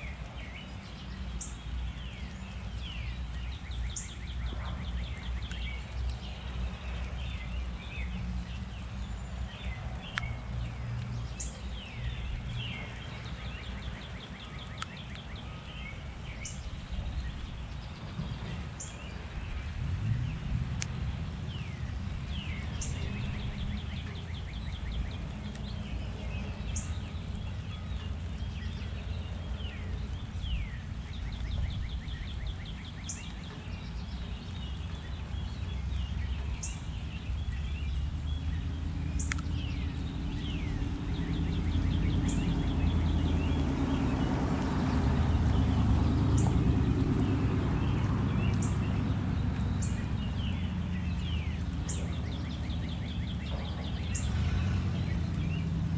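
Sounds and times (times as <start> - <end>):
songbirds calling: 0.0 - 55.9
low steady rumble: 1.8 - 55.9.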